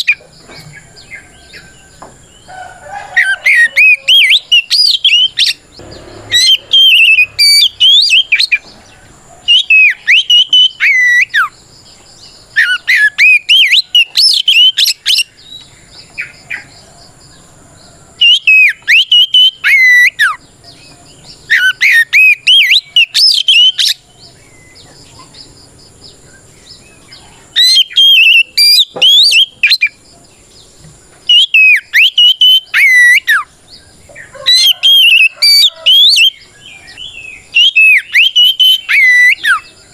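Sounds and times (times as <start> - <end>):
magpie-robin singing whistled notes: 3.2 - 11.6, 12.2 - 16.8, 18.2 - 25.5, 26.3 - 30.0, 31.3 - 33.9, 34.5 - 39.9.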